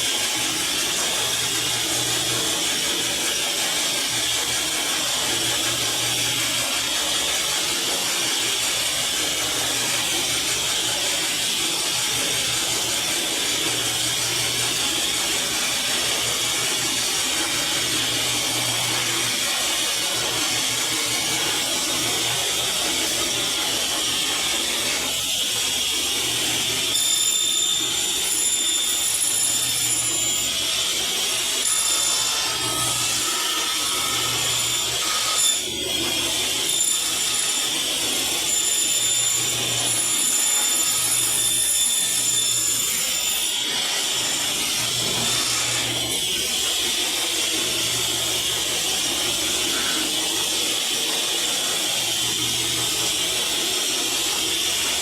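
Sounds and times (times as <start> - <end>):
power tool cutting board: 0.0 - 55.0.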